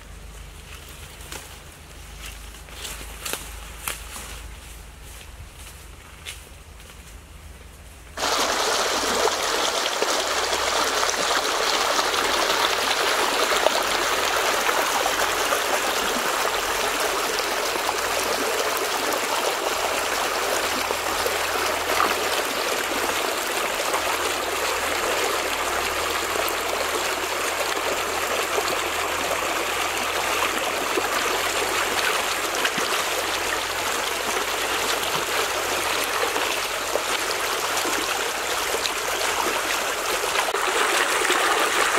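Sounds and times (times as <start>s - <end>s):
stream running over rocks: 8.2s - 41.9s.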